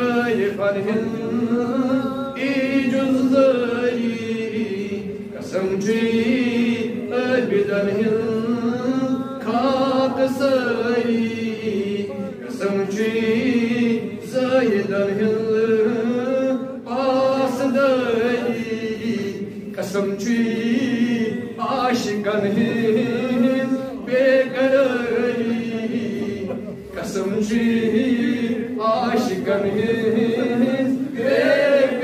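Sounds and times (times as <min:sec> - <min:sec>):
man chanting melodically: 0:00.0 - 0:31.9.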